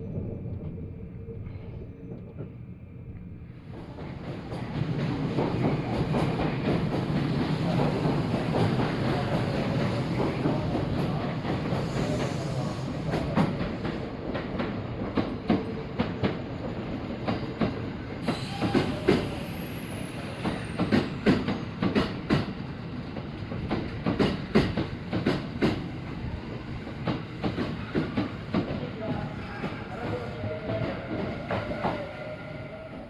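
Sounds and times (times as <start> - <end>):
train wheels clacking on rails: 3.6 - 33.0.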